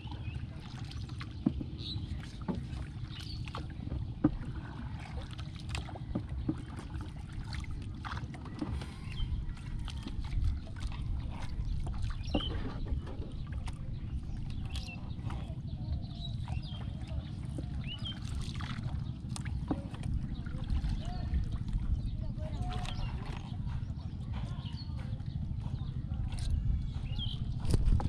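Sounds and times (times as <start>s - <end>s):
light clicks and knocks in boat: 0.0s - 28.0s
low rumble of water and wind: 0.0s - 28.0s.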